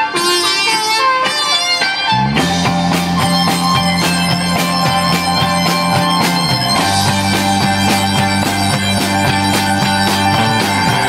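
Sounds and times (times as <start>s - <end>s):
bass guitar: 0.0s - 11.0s
drums steady beat: 0.0s - 11.0s
electric guitars: 0.0s - 11.0s.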